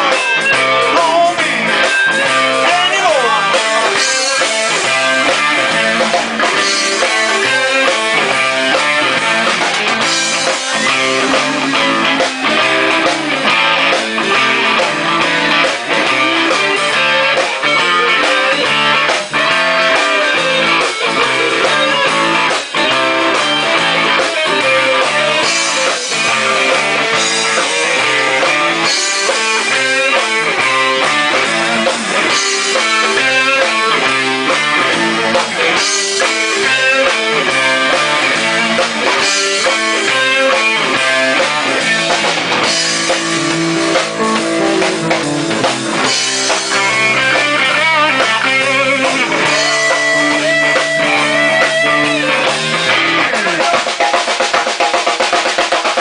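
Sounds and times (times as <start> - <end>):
drum kit with steady beat: 0.0 - 56.0
electric guitars: 0.0 - 56.0.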